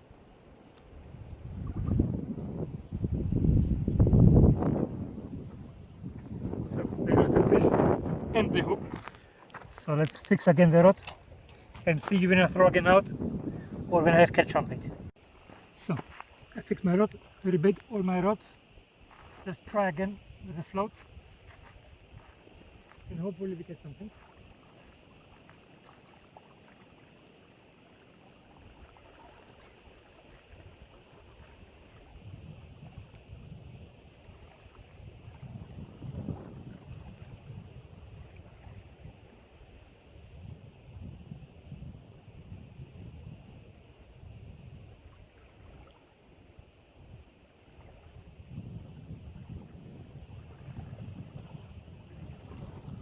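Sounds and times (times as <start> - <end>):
wind buffeting microphone: 0.9 - 25.7, 29.7 - 53.0
faint steady hiss: 6.6 - 52.9.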